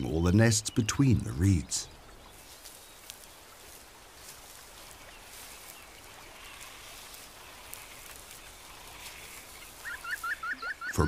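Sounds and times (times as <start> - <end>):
low outdoor hiss: 0.0 - 11.0
faint bird calls: 0.6 - 11.0.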